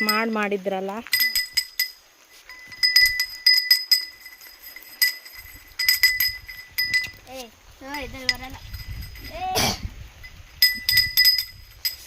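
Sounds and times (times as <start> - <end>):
small metal bell clinking: 0.0 - 9.6, 10.2 - 12.0.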